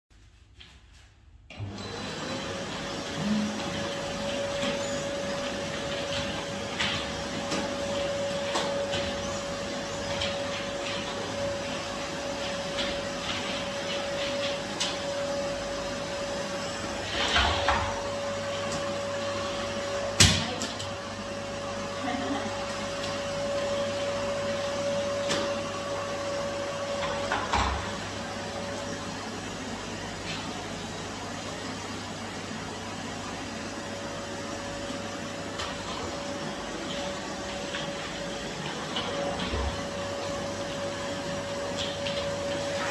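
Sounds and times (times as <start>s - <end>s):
vacuum cleaner whining: 1.5s - 42.9s.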